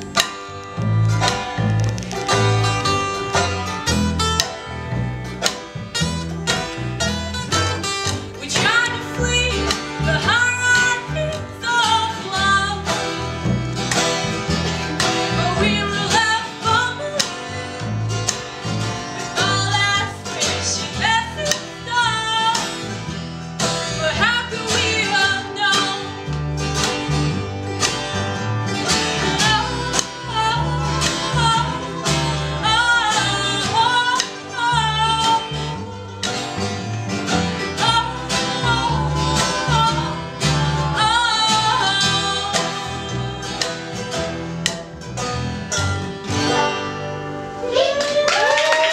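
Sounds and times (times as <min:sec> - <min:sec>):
acoustic folk band playing: 0:00.0 - 0:48.9
guitar: 0:00.0 - 0:48.9.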